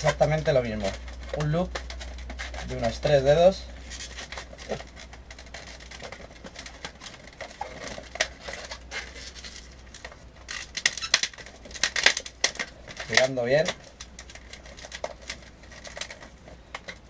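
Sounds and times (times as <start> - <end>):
balloons rubbing while twisted: 0.0 - 16.7.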